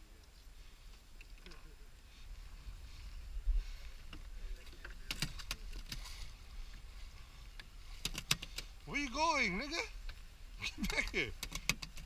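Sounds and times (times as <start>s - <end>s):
low wind: 0.0s - 12.0s.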